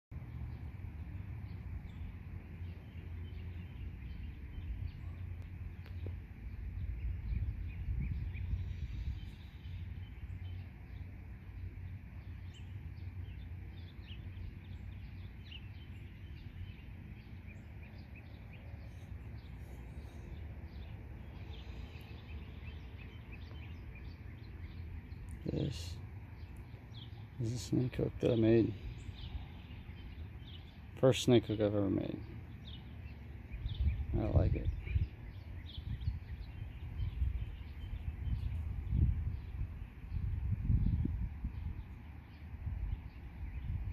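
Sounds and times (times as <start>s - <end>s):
steady low rumble: 0.1s - 31.1s, 32.0s - 43.9s.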